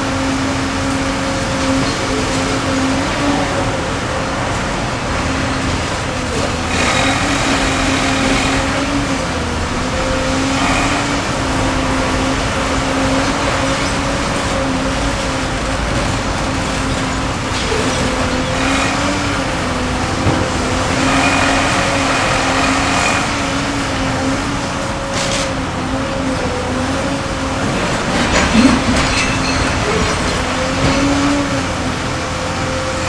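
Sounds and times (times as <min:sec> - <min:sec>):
excavator engine droning: 0:00.0 - 0:33.0
hydraulic whine: 0:00.0 - 0:33.0.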